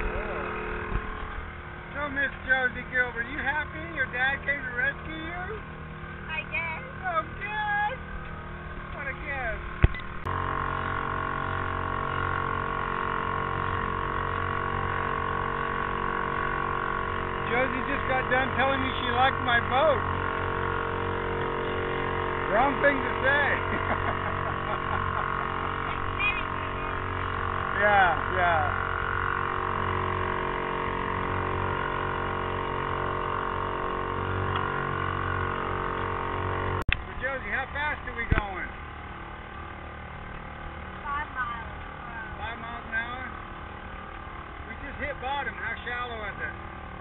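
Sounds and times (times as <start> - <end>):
outboard motor running: 0.0 - 47.0.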